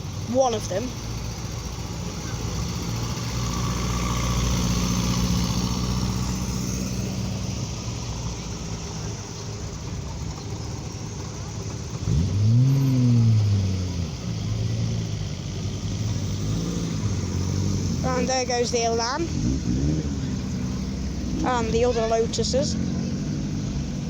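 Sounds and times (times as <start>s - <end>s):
car engine revving: 0.0s - 24.0s
car engines running slowly: 0.0s - 24.0s.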